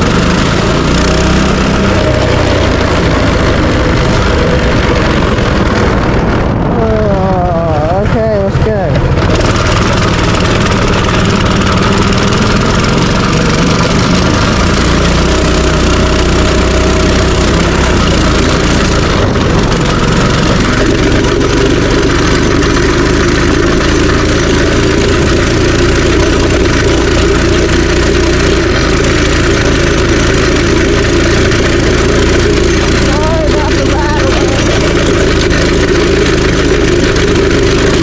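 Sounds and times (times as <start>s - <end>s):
minibike engine running: 0.0s - 38.0s.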